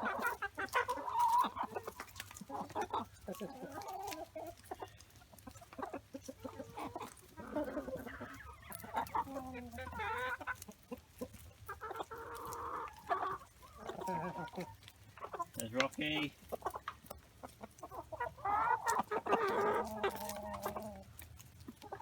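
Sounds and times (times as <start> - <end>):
hens clucking and calling: 0.0 - 22.0.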